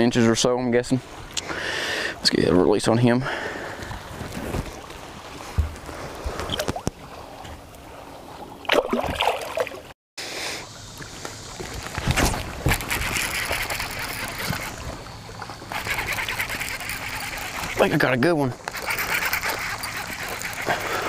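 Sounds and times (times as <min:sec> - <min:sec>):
water splashing and trickling: 0:00.0 - 0:10.0, 0:10.6 - 0:21.0.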